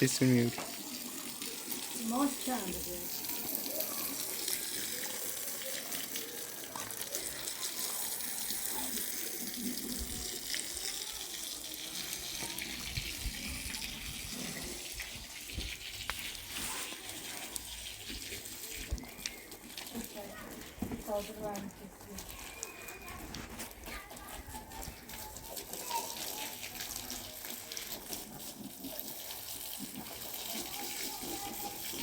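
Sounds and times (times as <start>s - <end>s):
water running from a tap: 0.0s - 32.0s.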